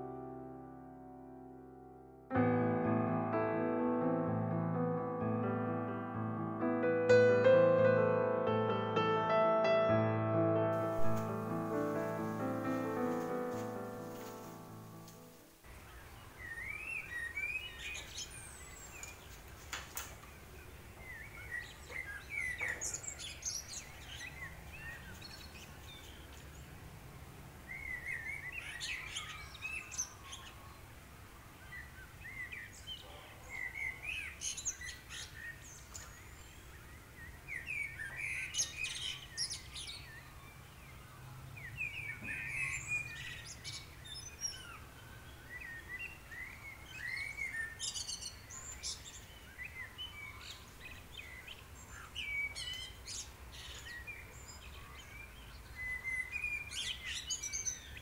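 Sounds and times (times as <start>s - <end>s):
small birds chirping: 10.8s - 27.0s, 27.6s - 58.0s.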